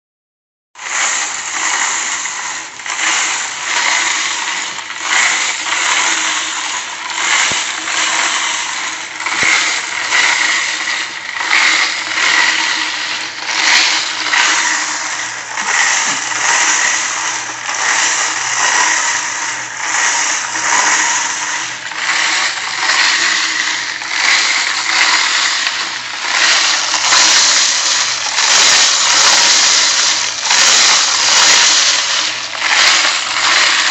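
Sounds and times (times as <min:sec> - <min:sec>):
tumbler rattling and sloshing: 0:00.8 - 0:33.9.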